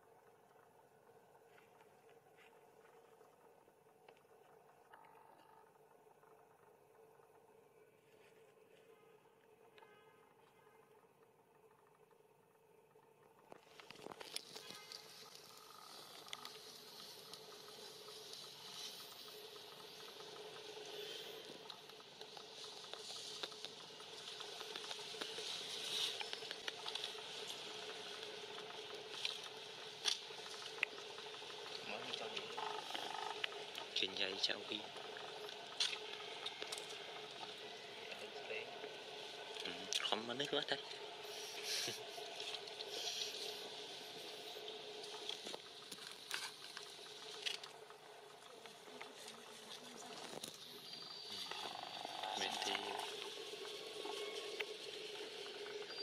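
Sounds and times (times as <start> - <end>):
faint steady hum: 0.0 - 56.0
small ticks: 0.0 - 56.0.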